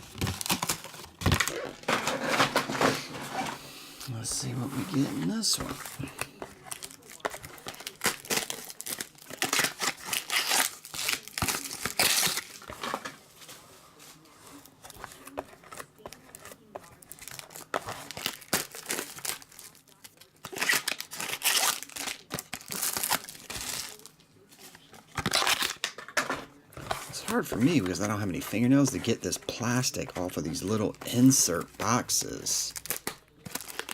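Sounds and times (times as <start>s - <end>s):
shrink-wrap crinkling and tearing: 0.0s - 3.4s, 4.1s - 13.1s, 14.6s - 26.2s, 26.8s - 33.9s.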